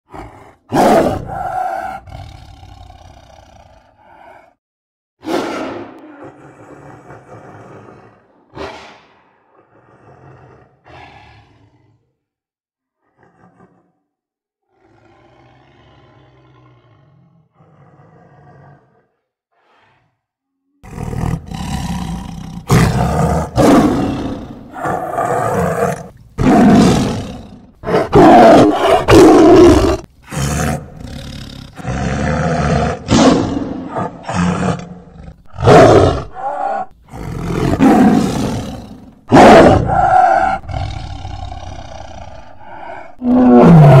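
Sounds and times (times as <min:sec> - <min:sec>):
big cat roars and growls: 0:00.1 - 0:04.6, 0:05.2 - 0:12.3, 0:13.0 - 0:44.0.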